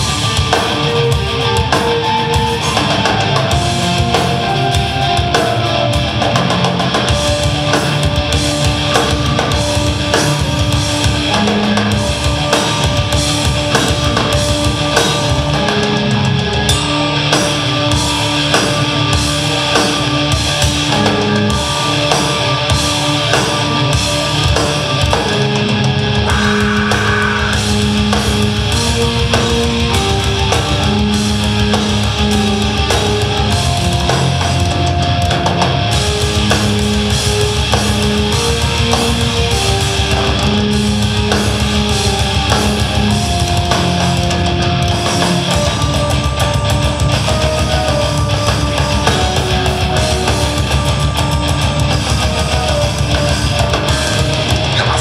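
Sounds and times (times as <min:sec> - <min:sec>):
distorted electric guitars: 0:00.0 - 0:55.0
fast drum kit: 0:00.0 - 0:55.0
keyboard: 0:00.0 - 0:55.0.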